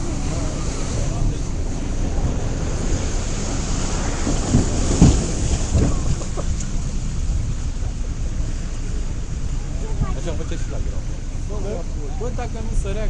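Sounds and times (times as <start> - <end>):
low rumble: 0.0 - 13.0
wind buffeting microphone: 0.0 - 13.0.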